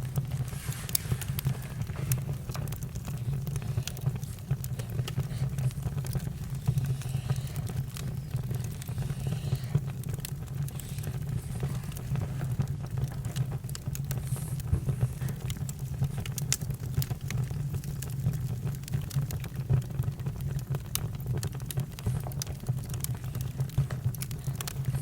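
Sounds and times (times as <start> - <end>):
campfire crackles and pops: 0.0 - 25.0
low steady fire rumble: 0.0 - 25.0.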